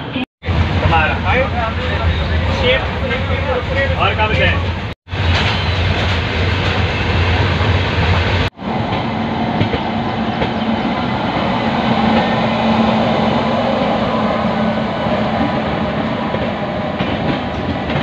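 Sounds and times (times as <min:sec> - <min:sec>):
train passing on next track: 0:00.0 - 0:18.0
train rumble and wheel noise: 0:00.0 - 0:18.0.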